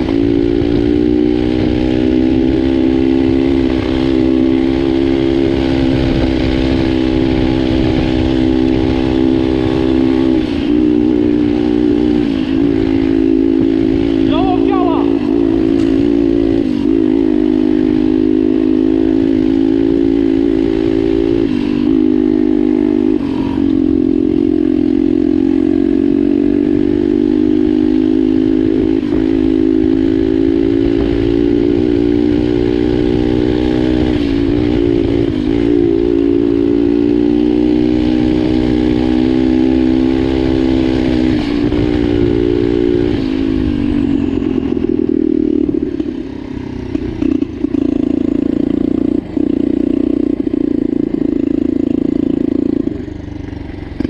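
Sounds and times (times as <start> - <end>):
motorbike engine running hard: 0.0 - 54.0.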